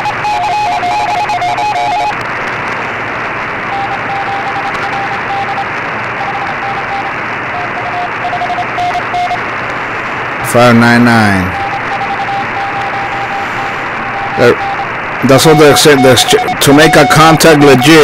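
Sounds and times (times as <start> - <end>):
morse code tones: 0.0 - 2.2, 3.7 - 9.4, 10.6 - 18.0
radio band hiss: 0.0 - 18.0.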